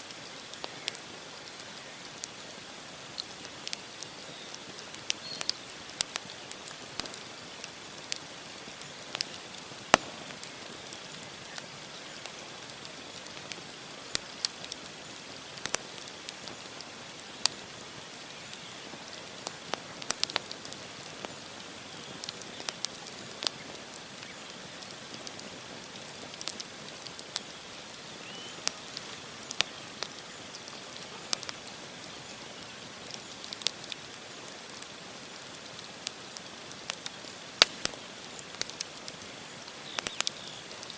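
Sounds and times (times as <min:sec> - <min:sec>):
campfire logs crackling: 0:00.0 - 0:40.9
fire hissing: 0:00.0 - 0:40.9.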